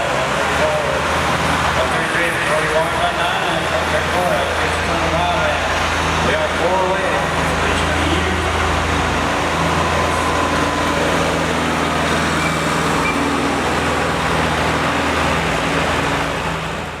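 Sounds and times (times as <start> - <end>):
arena noise: 0.0 - 17.0
tractor engine droning: 0.0 - 17.0.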